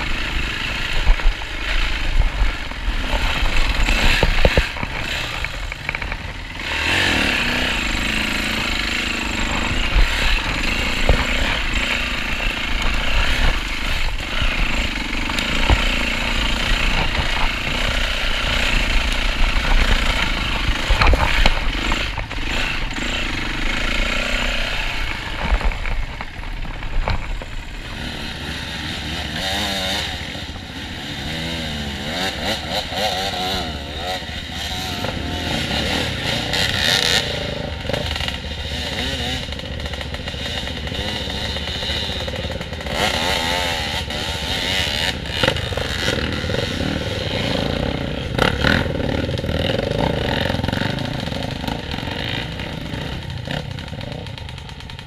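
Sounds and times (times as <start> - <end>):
dirt bike engine running: 0.0 - 55.0
knocks and rattles over ground: 0.0 - 55.0.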